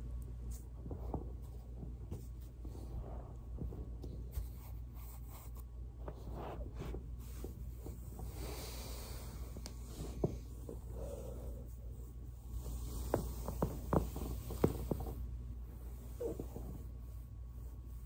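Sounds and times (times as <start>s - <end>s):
steady low hum: 0.0s - 18.0s
foam roller scuffing on carpet: 0.4s - 10.6s, 12.3s - 18.0s.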